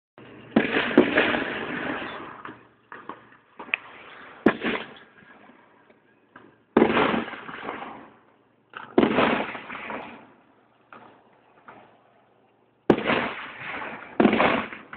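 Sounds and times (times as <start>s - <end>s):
fireworks bangs: 0.2s - 14.9s.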